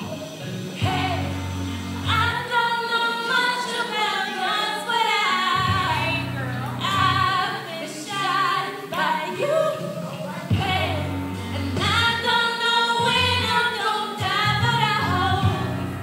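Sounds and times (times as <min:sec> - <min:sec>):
musical accompaniment: 0:00.0 - 0:16.0
woman singing: 0:00.8 - 0:01.4, 0:02.0 - 0:16.0.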